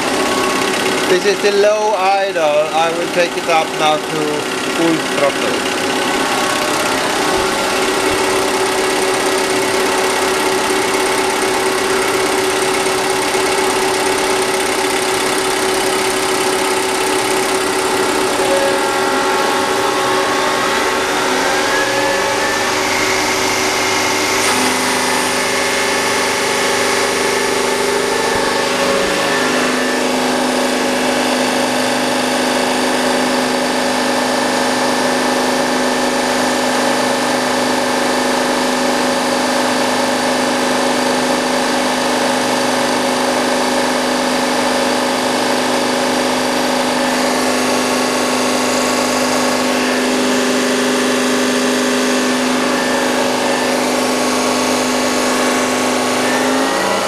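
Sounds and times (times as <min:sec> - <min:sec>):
injection pump mechanical hum and whine: 0:00.0 - 0:57.0.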